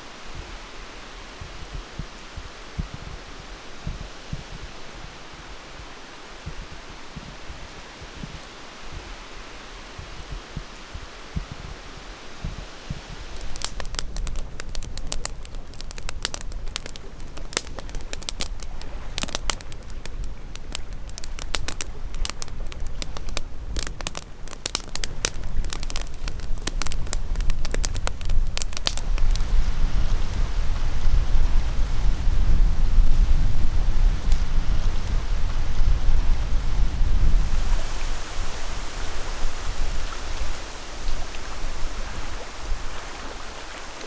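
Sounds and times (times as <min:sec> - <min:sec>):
campfire crackling and popping: 0:01.4 - 0:09.3, 0:09.9 - 0:31.6, 0:32.3 - 0:38.7.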